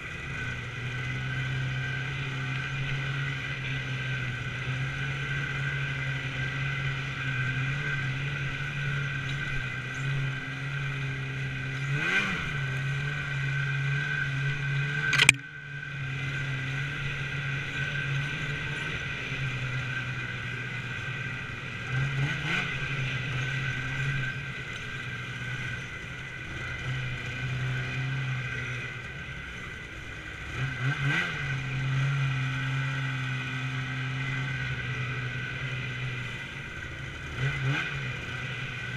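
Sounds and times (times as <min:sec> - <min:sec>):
snowmobile engine revving: 0:00.0 - 0:15.4, 0:16.0 - 0:29.3, 0:30.2 - 0:38.9.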